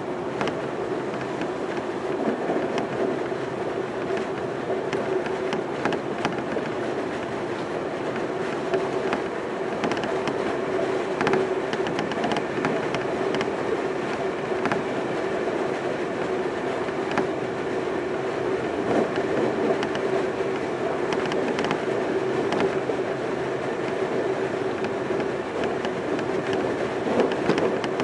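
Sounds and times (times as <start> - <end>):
wheels clicking over rail joints: 0.0 - 14.9, 15.6 - 17.5, 18.4 - 28.0
train rumble with droning tone: 0.0 - 28.0.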